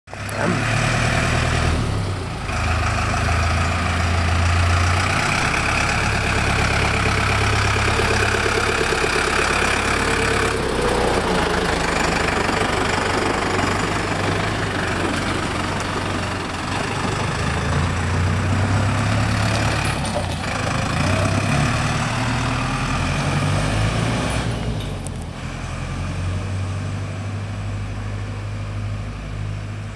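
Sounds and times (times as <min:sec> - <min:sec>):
tractor diesel engine driving past: 0:00.1 - 0:29.9.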